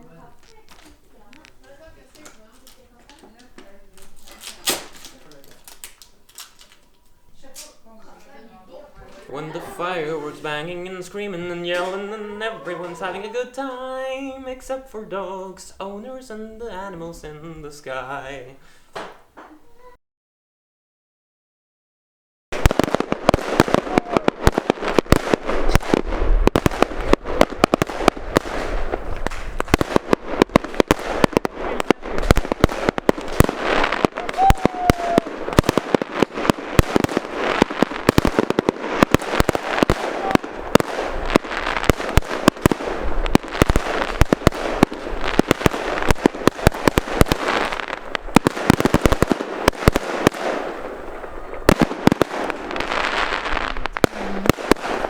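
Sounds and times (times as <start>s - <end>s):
fireworks bangs and crackles: 0.0s - 6.9s, 9.1s - 19.4s, 22.5s - 55.0s.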